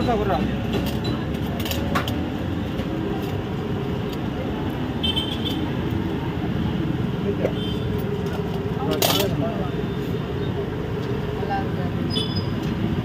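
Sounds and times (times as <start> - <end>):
street bustle: 0.0 - 13.0
traffic noise: 0.0 - 13.0.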